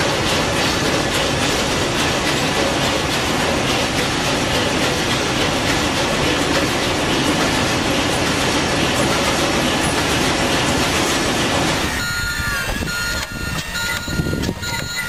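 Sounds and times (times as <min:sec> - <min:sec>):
marine diesel engine running: 0:00.0 - 0:15.0.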